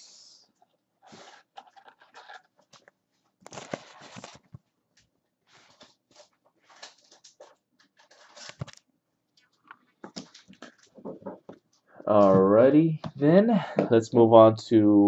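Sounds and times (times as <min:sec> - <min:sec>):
rustling of card handling: 0:01.0 - 0:13.2.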